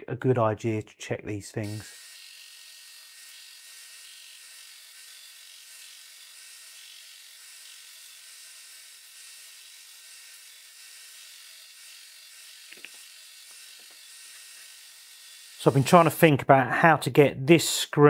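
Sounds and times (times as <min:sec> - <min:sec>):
belt sander sanding wood: 0:01.6 - 0:16.2.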